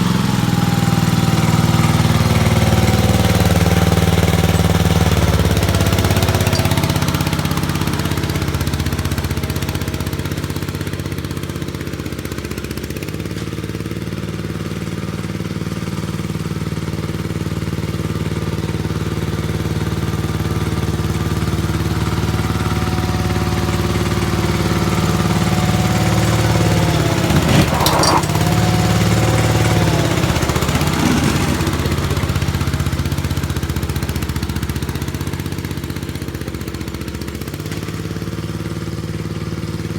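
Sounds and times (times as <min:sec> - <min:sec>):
engine clatter: 0:00.0 - 0:39.9
tractor engine running: 0:00.0 - 0:39.9.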